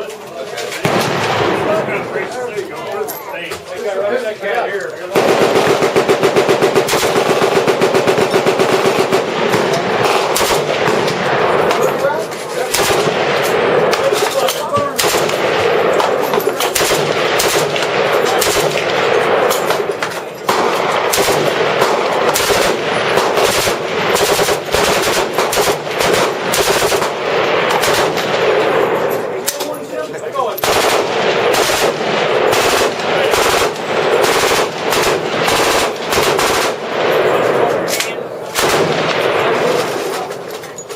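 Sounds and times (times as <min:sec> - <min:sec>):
machine guns firing bursts: 0:05.1 - 0:29.4, 0:30.6 - 0:40.5.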